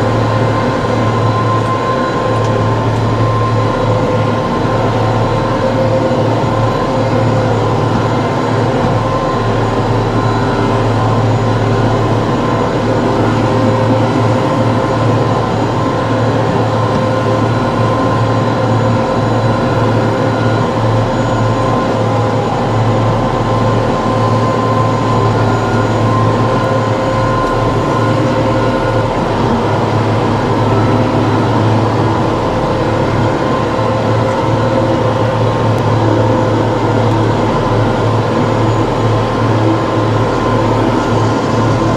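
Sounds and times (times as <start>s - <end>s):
tractor diesel engine droning: 0.0s - 41.9s.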